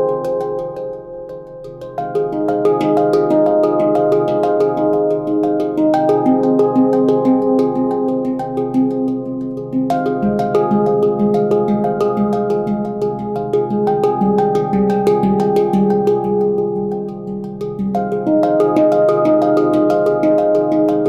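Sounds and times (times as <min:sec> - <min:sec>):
handpan played with hands: 0:00.0 - 0:21.0.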